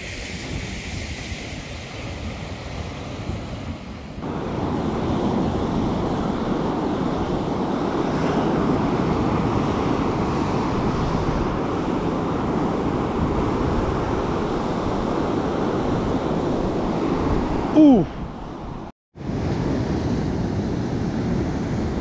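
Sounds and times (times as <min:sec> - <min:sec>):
sea surf breaking on beach: 0:00.0 - 0:22.0
wind buffeting microphone: 0:00.0 - 0:22.0.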